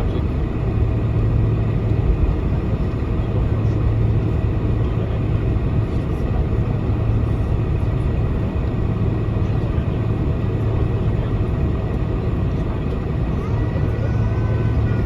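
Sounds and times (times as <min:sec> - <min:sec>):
airplane cabin engine hum: 0:00.0 - 0:15.0.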